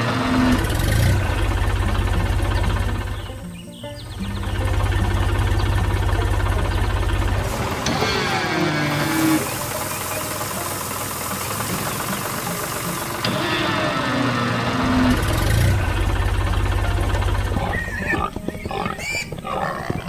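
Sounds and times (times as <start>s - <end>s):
cartoon engine chugging: 0.0s - 20.0s
sliding pitch tones: 0.0s - 20.0s.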